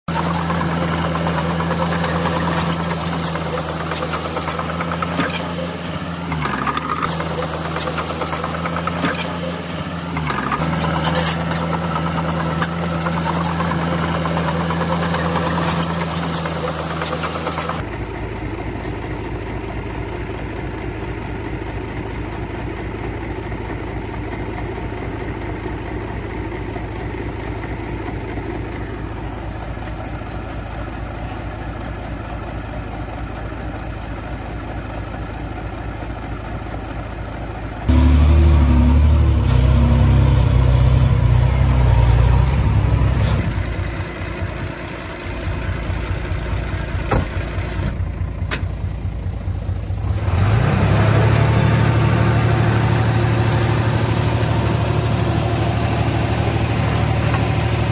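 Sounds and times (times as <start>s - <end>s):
heavy machinery diesel engines: 0.0s - 57.9s.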